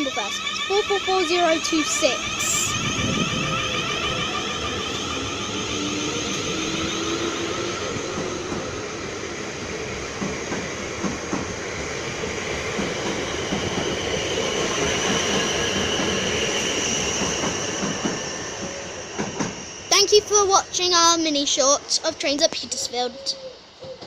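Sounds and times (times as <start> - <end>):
traction motors whining: 0.0 - 20.4
rumbling train wheels: 0.0 - 23.0.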